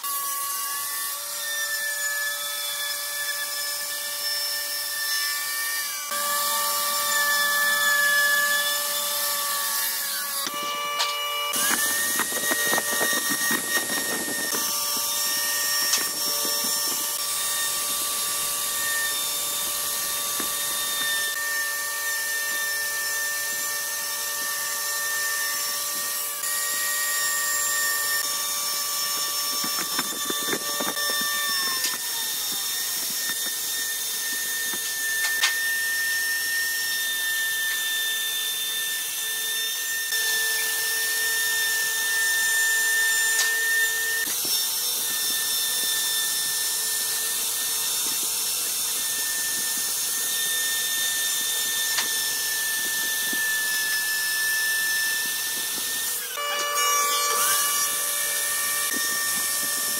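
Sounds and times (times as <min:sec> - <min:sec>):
router whining: 0:00.0 - 0:59.9.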